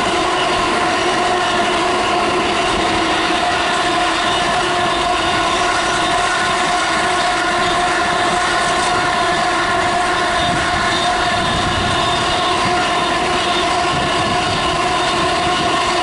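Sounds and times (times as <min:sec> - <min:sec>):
steady whine: 0:00.0 - 0:16.0
train wheels on rail: 0:00.0 - 0:16.0.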